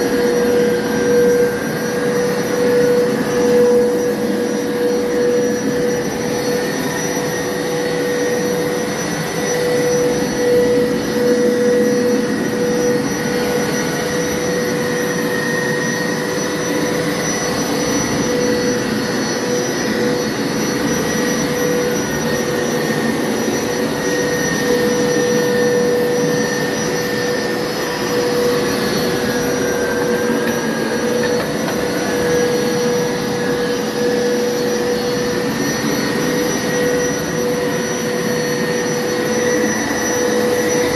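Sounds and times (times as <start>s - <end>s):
carpet washer motor humming: 0.0s - 40.9s.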